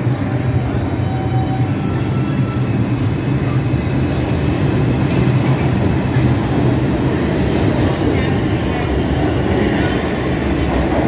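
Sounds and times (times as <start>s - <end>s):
subway train pulling out: 0.0s - 11.0s.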